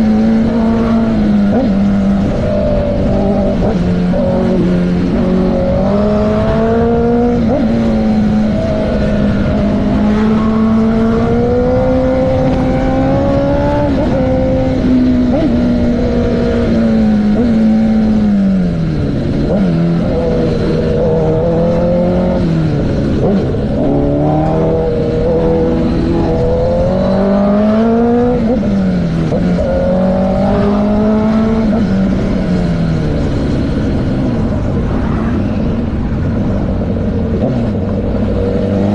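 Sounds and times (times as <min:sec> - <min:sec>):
motorcycle engine revving: 0:00.0 - 0:38.9
road and wind noise: 0:00.0 - 0:38.9.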